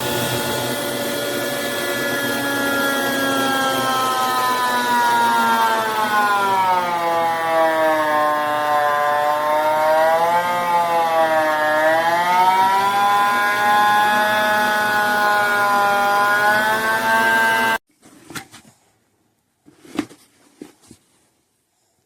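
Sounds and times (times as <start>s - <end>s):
vacuum cleaner motor whining: 0.0s - 17.8s.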